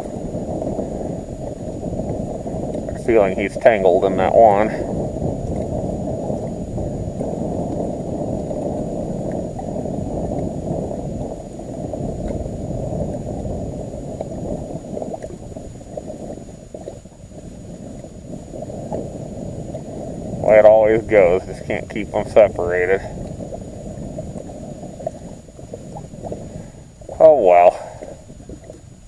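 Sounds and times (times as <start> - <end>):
water gurgling around boat hull: 0.0 - 29.0.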